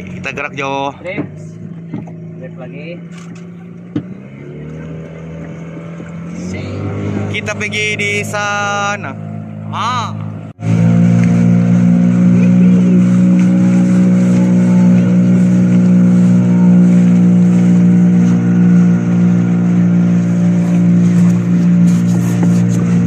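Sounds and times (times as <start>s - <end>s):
outboard motor running: 0.0s - 23.0s
water rushing along hull: 0.0s - 23.0s.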